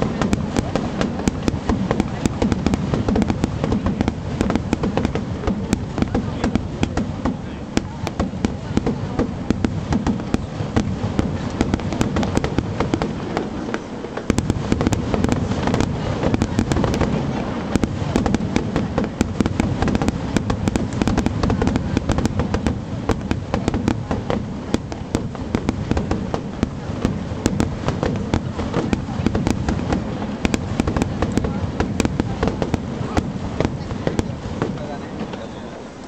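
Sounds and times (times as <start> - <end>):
fireworks cracks and bangs: 0.0 - 36.0.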